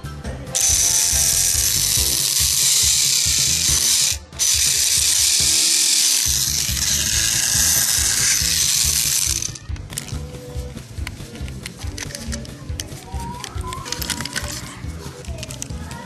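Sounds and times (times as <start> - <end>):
toy train motor whirring: 0.6 - 10.2, 11.0 - 16.0.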